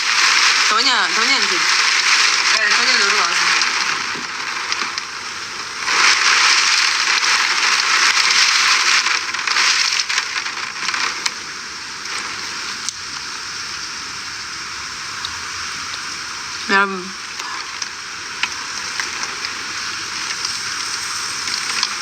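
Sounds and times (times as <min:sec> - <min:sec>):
heavy rain and wind: 0:00.0 - 0:22.0.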